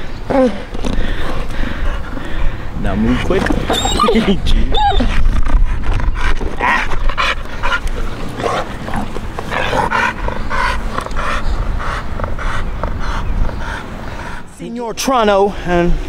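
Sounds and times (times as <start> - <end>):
dog panting hard: 1.1 - 14.6.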